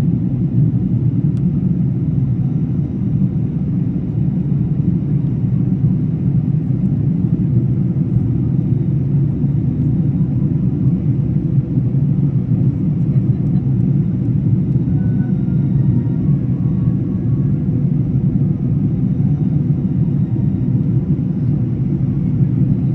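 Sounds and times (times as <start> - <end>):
airliner low rumble: 0.0 - 22.9.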